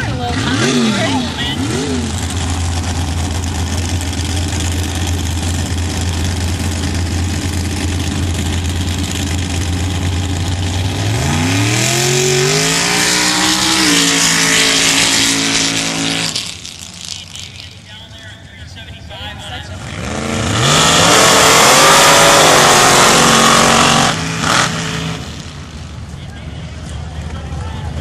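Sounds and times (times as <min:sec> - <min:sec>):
truck engine revving: 0:00.0 - 0:18.0, 0:18.6 - 0:28.0.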